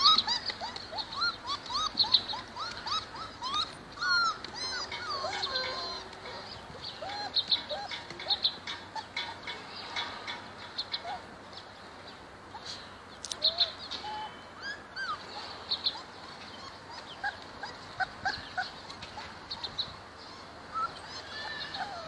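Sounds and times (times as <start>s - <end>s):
puppies whining and squeaking: 0.0s - 11.4s, 12.5s - 22.0s.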